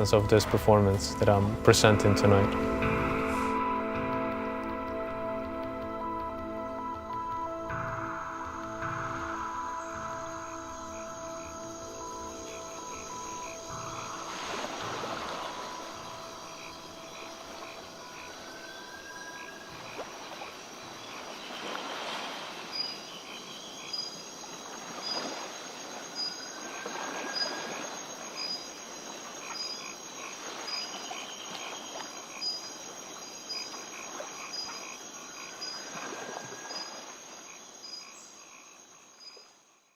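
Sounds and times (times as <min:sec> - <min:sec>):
frogs calling: 0:02.2 - 0:39.9
insects trilling: 0:02.4 - 0:39.9.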